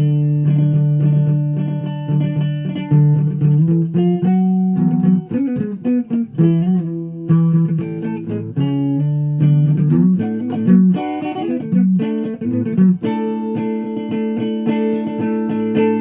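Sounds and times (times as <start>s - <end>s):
guitar chord ringing: 0.0s - 16.0s
guitar plucked notes: 0.0s - 16.0s.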